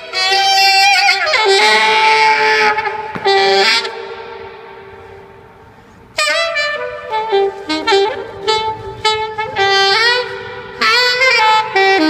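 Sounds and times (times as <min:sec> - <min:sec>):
alto saxophone solo: 0:00.0 - 0:12.0.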